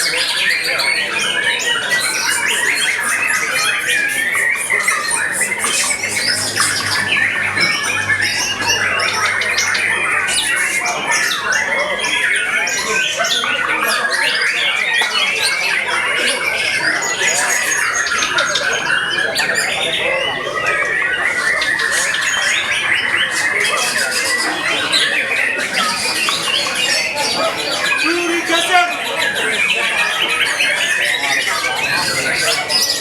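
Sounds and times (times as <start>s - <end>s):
many birds singing: 0.0s - 33.0s.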